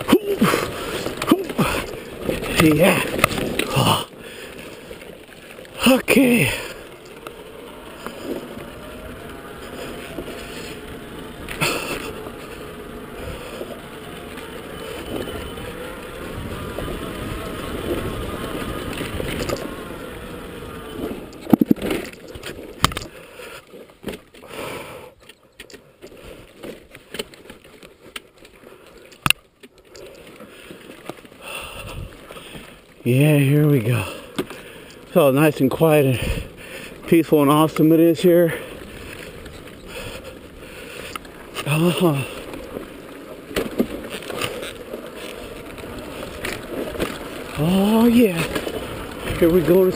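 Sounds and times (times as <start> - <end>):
dirt bike engine rumble: 0.0 - 27.4, 28.6 - 49.9.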